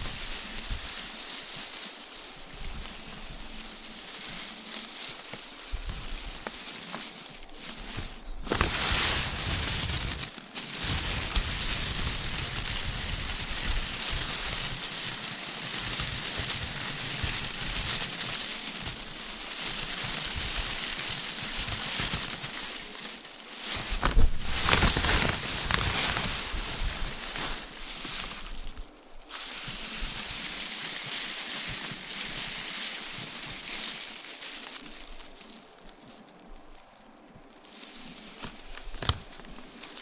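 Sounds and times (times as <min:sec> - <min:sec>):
paper confetti crackling rustle: 0:00.0 - 0:40.0.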